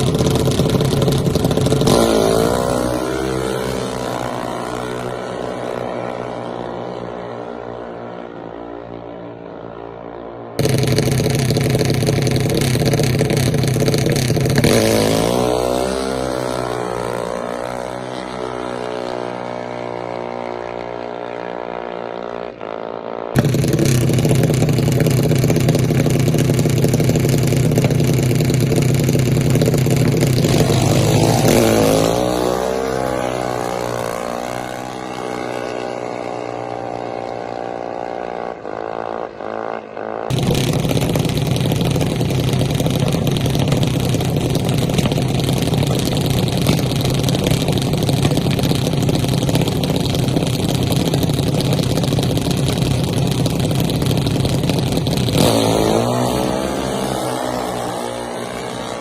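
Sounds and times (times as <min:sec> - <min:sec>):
race car engine at high revs: 0:00.0 - 0:08.5, 0:10.6 - 0:59.0.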